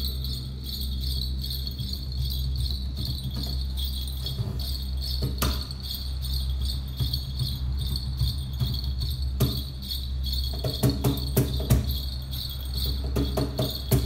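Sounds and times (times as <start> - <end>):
low synth drone: 0.0 - 13.2
high jingling: 0.0 - 14.0
percussion music: 0.0 - 14.0.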